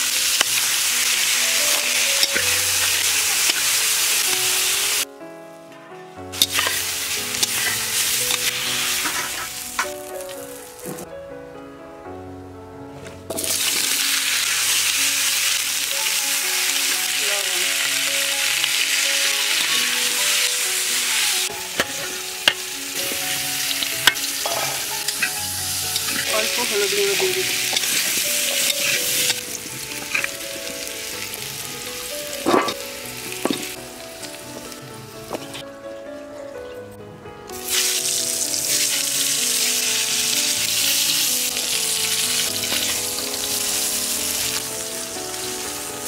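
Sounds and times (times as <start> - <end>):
food sizzling in hot oil: 0.0 - 5.1, 6.3 - 11.1, 13.3 - 35.6, 37.5 - 46.0.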